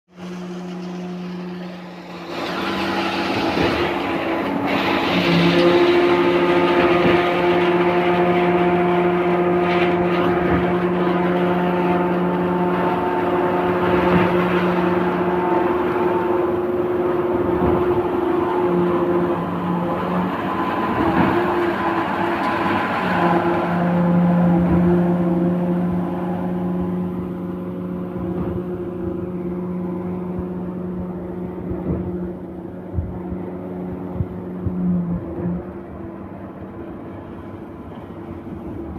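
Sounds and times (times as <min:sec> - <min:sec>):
concrete machinery motor drone: 0:00.1 - 0:38.9.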